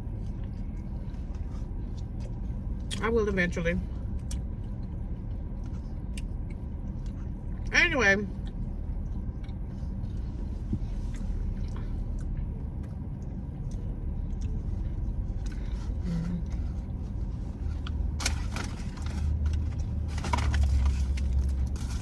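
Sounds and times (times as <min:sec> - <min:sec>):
car cabin engine rumble: 0:00.0 - 0:22.0.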